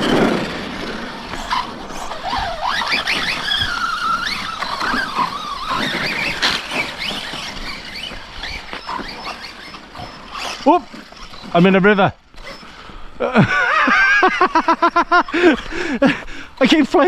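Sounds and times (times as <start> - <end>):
electric motor whine revving: 0.0 - 15.6
tyres on dirt: 0.0 - 17.0.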